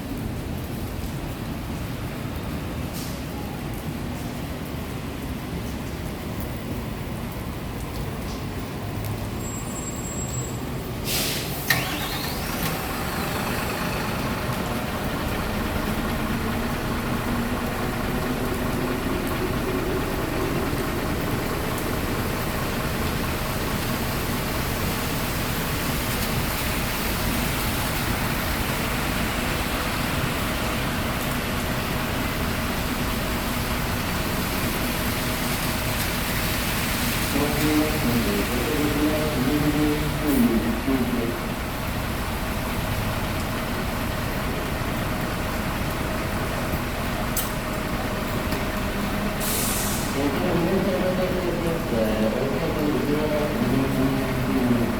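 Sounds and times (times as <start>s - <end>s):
bus diesel engine starting: 9.4s - 54.9s
bus engine idling: 9.4s - 54.9s.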